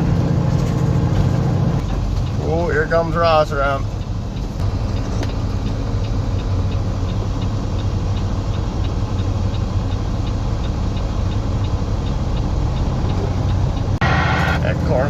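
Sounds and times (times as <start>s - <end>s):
diesel truck engine drone: 0.0s - 15.0s
light even ticking: 1.8s - 14.0s.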